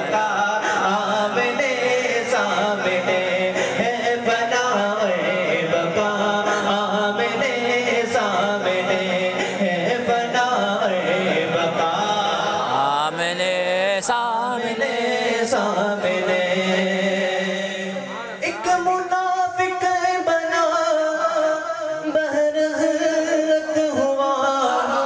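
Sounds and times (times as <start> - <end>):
man singing into a microphone: 0.0 - 25.0.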